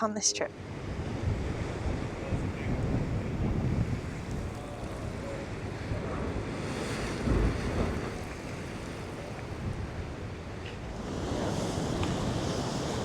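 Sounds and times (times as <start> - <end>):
wind buffeting microphone: 0.4 - 13.0
surf washing against rocks: 0.6 - 13.0.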